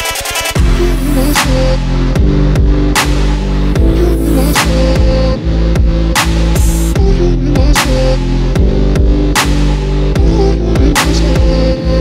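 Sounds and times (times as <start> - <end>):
dubstep electronic music: 0.0 - 12.0.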